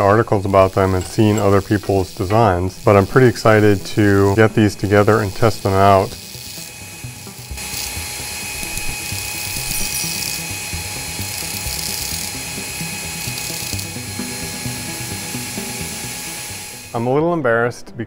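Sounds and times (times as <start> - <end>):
belt grinder grinding metal: 0.0 - 17.0
grinder motor whine: 0.0 - 17.0.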